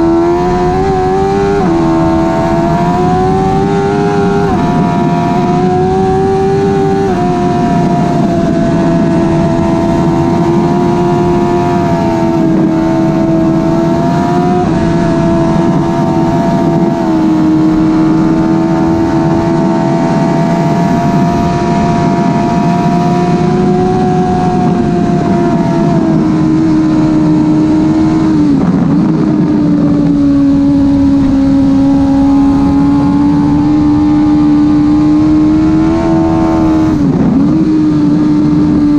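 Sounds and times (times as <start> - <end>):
motorcycle engine revving high: 0.0 - 38.9.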